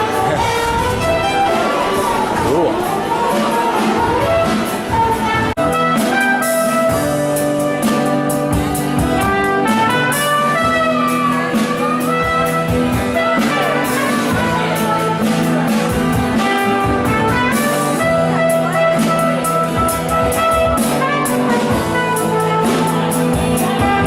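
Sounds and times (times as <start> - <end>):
brass music with steady beat: 0.0 - 24.0.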